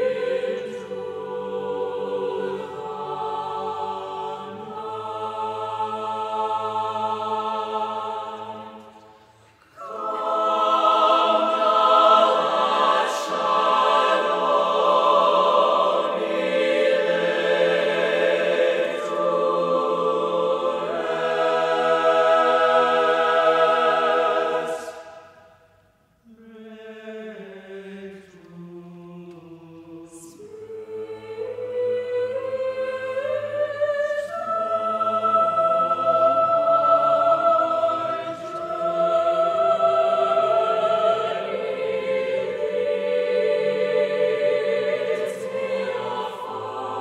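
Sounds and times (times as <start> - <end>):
choir singing unaccompanied: 0.0 - 25.6, 26.3 - 47.0.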